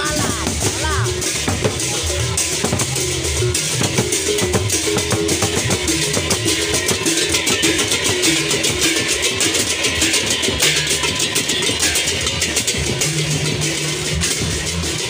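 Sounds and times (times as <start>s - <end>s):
gamelan music: 0.0s - 15.0s
hand cymbals clashing: 0.0s - 15.0s
large drums beating: 0.0s - 15.0s.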